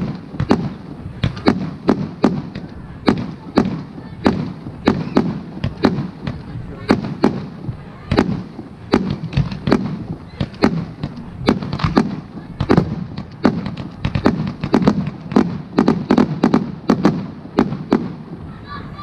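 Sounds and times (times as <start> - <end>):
fireworks bursting with bangs: 0.0 - 19.0.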